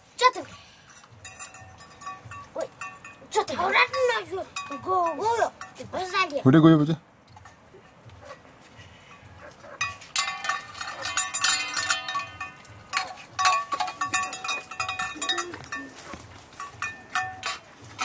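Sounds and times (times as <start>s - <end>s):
metal bowls clinking and rattling: 0.2s - 6.2s, 7.3s - 18.0s.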